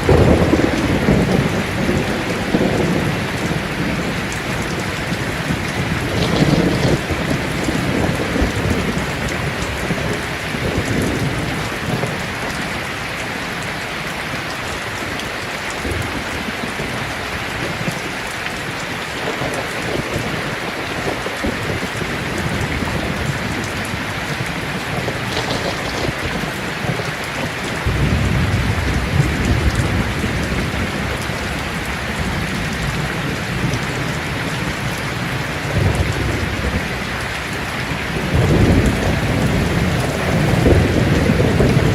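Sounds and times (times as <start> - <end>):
thunder rumbling: 0.0 - 12.8, 14.2 - 41.9
heavy rain on a tin roof: 0.0 - 41.9.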